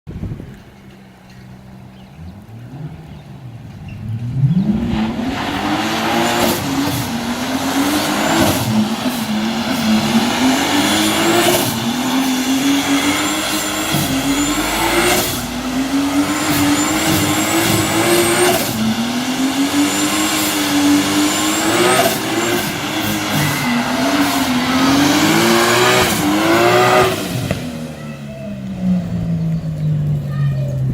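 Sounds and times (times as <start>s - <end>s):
tyres spinning and squealing: 2.3s - 30.9s
car engine revving high: 2.4s - 30.2s.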